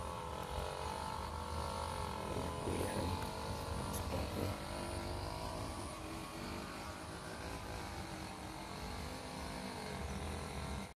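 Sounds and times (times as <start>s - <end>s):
faint hum: 0.0s - 10.9s.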